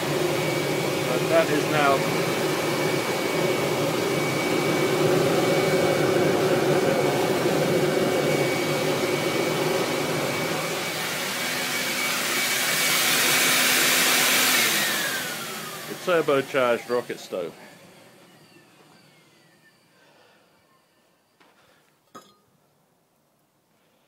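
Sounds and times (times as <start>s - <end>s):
vacuum cleaner motor whine: 0.0s - 21.8s.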